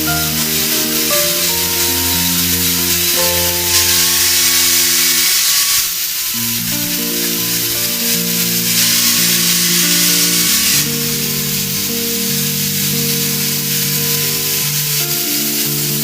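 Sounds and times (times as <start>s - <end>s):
instrumental music held notes: 0.0s - 16.0s
steady hiss: 0.0s - 16.0s.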